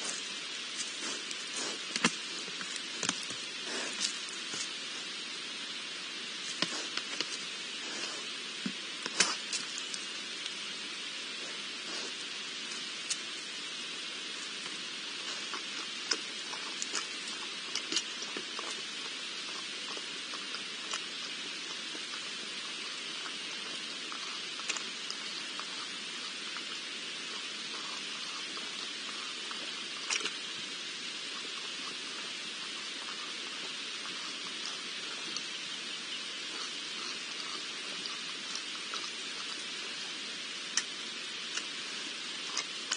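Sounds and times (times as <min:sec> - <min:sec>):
boar drinking and rooting: 0:00.0 - 0:42.9
steady hiss: 0:00.0 - 0:42.9.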